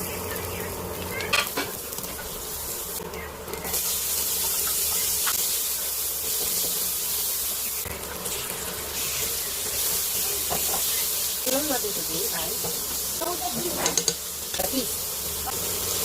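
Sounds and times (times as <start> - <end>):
food sizzling in a hot pan: 0.0 - 16.0.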